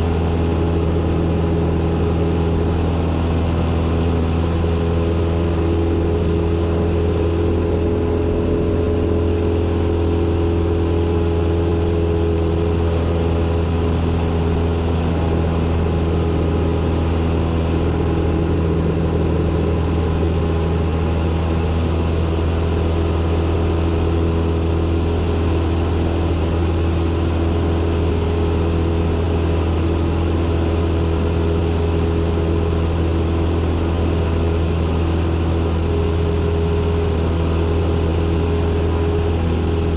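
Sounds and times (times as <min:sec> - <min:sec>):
light aircraft engine and propeller droning: 0:00.0 - 0:39.9.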